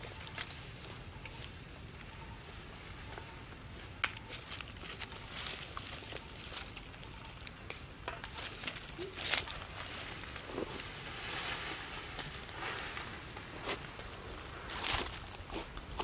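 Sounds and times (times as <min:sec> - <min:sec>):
dry leaves crackling underfoot: 0:00.0 - 0:16.0.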